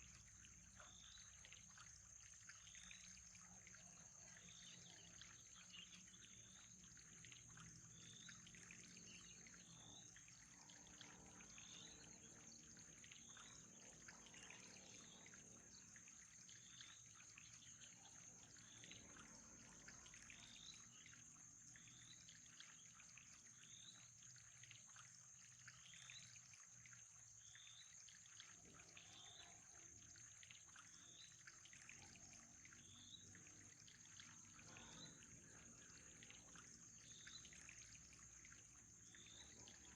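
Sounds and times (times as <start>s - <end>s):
faint trickling water: 0.0s - 39.9s.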